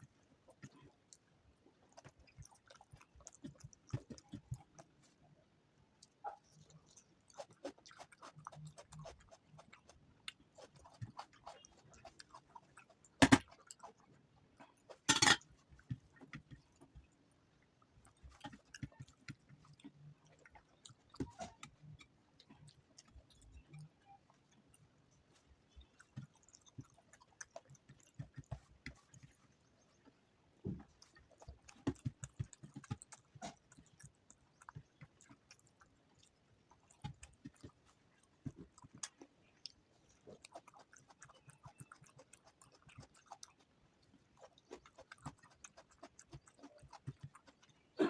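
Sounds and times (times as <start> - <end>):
close chewing and mouth sounds: 0.0 - 48.0.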